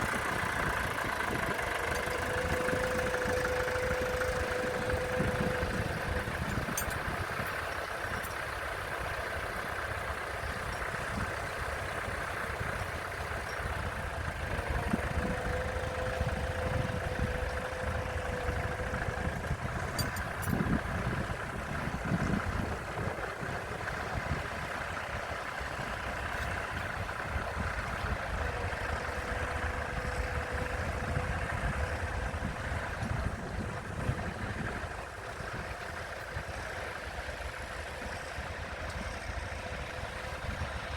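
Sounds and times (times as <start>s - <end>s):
tractor engine droning: 0.0s - 40.9s.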